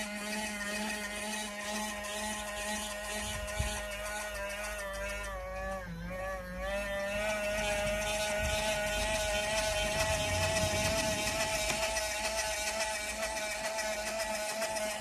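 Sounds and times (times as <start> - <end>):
electric propeller motors whining: 0.0 - 15.0.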